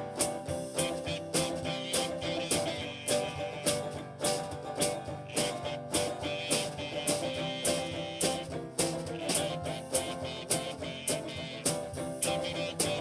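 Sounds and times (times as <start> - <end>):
slow blues guitar over beat: 0.0 - 13.0.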